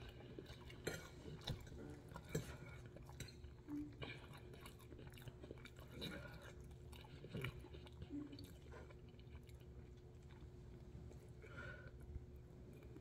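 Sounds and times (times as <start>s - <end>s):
person chewing noodles: 0.0s - 13.0s.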